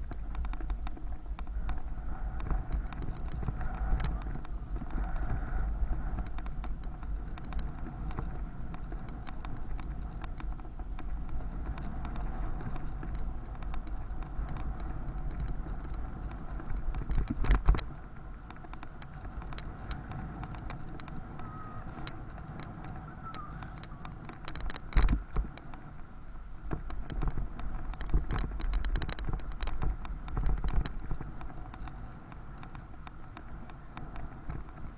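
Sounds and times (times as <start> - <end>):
background traffic: 0.0 - 34.9
bicycle rattling and clicking: 0.0 - 34.9
wind rumble on microphone: 0.0 - 34.9.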